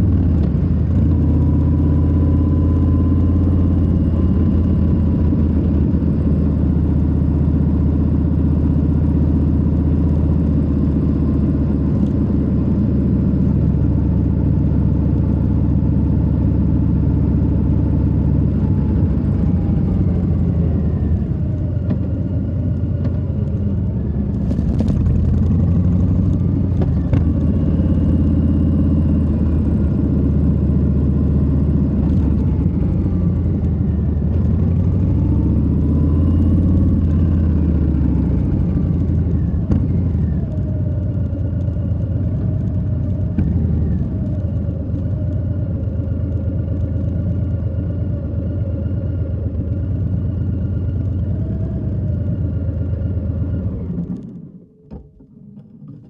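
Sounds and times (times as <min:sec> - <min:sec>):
motorcycle engine running: 0:00.0 - 0:55.2.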